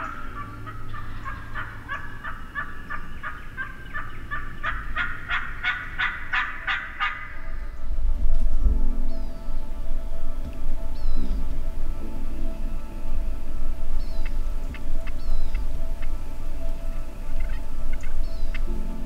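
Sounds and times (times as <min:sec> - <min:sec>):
turkey calling: 0:00.0 - 0:19.0.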